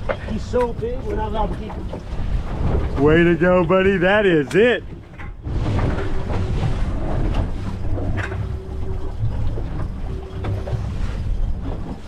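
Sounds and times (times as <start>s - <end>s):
boat noise: 0.0s - 12.0s
wind buffeting microphone: 0.0s - 12.0s.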